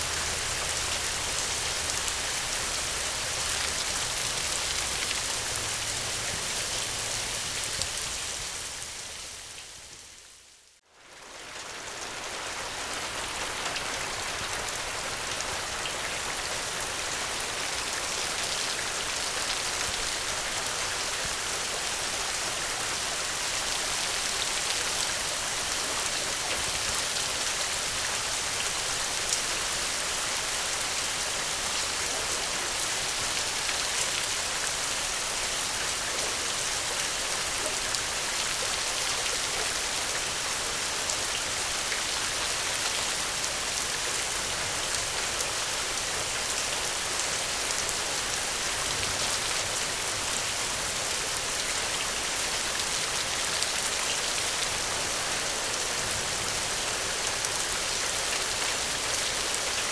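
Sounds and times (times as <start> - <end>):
steady gentle rain: 0.0 - 59.9.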